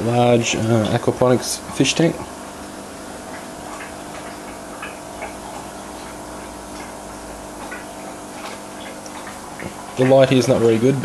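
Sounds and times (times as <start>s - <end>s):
aquarium pump humming: 0.0s - 11.0s.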